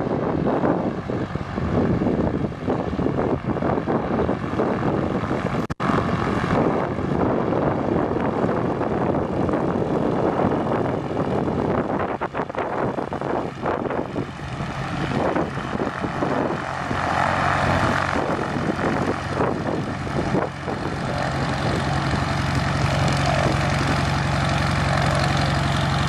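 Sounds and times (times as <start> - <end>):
propeller airplane engine droning: 0.0 - 26.0
wind gusting on microphone: 0.0 - 26.0.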